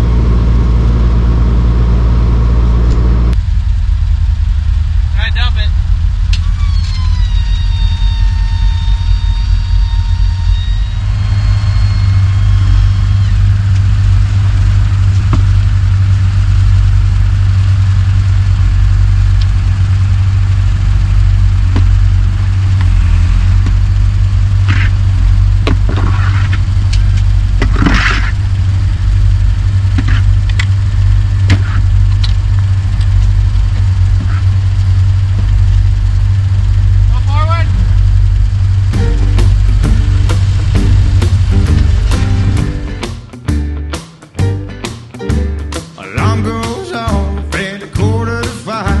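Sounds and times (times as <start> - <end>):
loud low engine rumble: 0.0 - 49.0.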